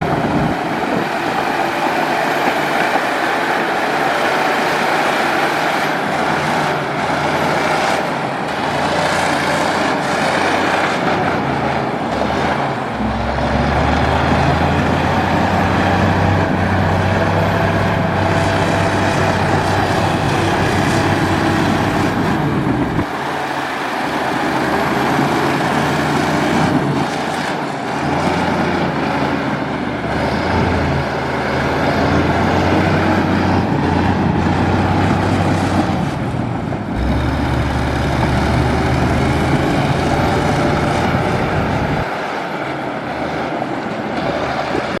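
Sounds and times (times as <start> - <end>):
bulldozer diesel engine working: 0.0 - 45.0.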